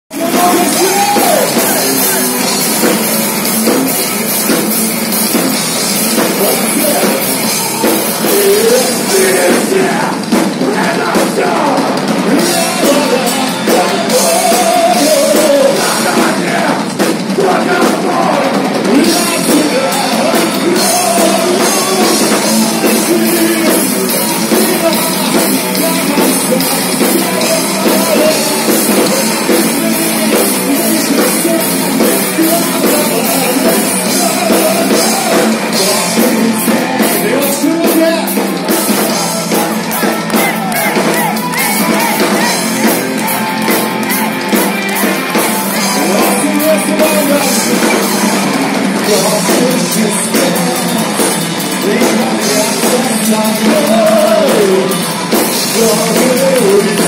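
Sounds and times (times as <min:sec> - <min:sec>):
man singing: 0:00.1 - 0:04.7, 0:06.0 - 0:57.0
drum kit: 0:00.1 - 0:57.0
electric guitars: 0:00.1 - 0:57.0
heavy metal band playing live: 0:00.1 - 0:57.0.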